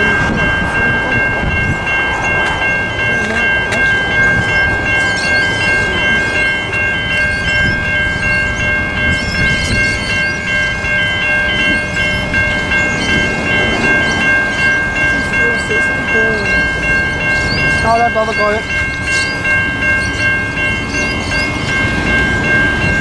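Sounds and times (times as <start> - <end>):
level crossing warning bells: 0.0 - 23.0.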